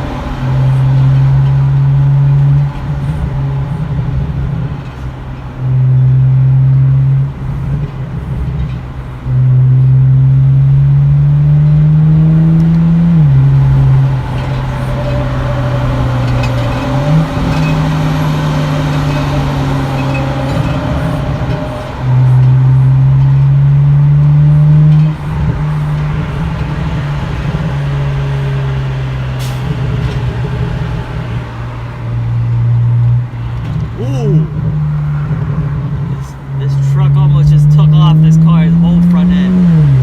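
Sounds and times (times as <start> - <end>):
car exhaust drone: 0.0 - 40.0.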